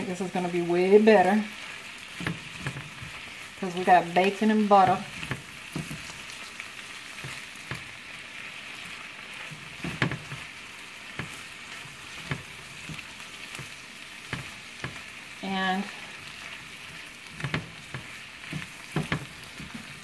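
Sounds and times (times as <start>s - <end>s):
vegetables sizzling in a skillet: 0.0s - 20.0s
spatula scraping a pan: 0.1s - 20.0s.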